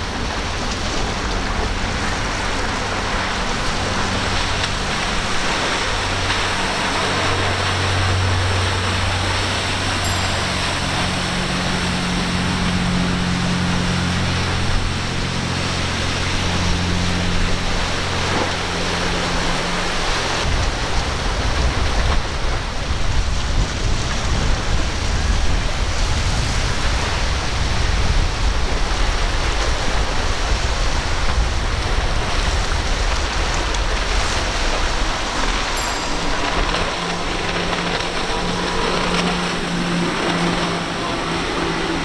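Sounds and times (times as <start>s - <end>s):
boat engines droning: 0.0s - 42.0s
boat spray rushing: 0.0s - 42.0s
outboard engines rumbling: 0.0s - 42.0s.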